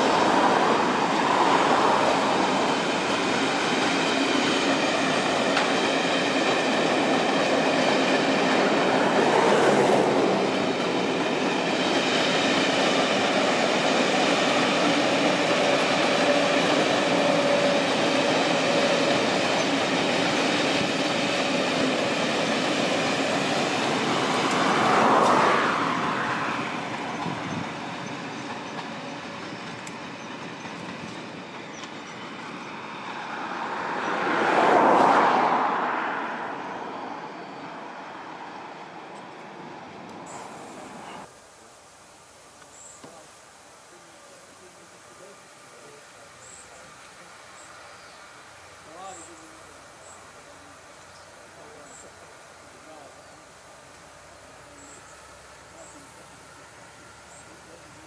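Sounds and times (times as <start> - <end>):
diesel locomotive passing: 0.0 - 58.0
train wheels rolling on rails: 0.0 - 58.0.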